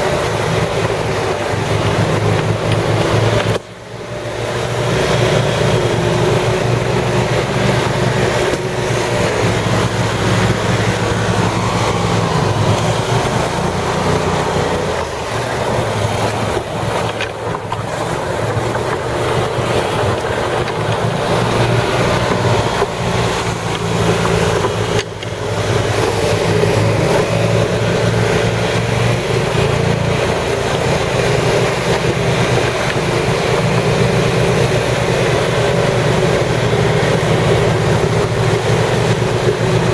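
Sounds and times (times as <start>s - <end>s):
vehicle engine humming: 0.0s - 39.9s
wash of noise: 0.0s - 39.9s.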